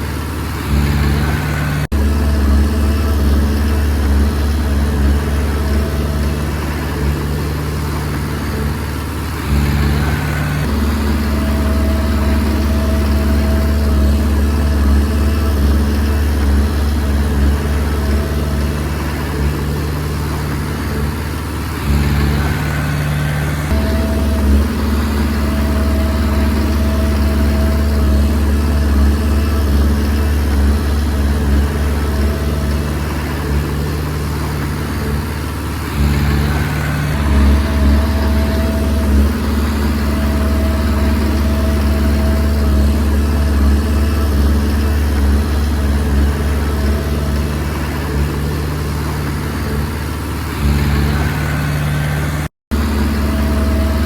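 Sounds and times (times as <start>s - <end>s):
bulldozer diesel engine running: 0.0s - 54.0s
thin whine: 0.0s - 54.0s.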